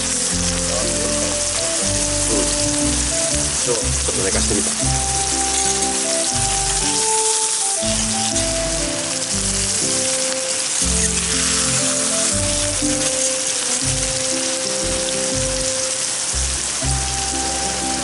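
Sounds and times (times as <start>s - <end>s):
background music: 0.0s - 18.0s
meat sizzling in oil: 0.0s - 18.0s.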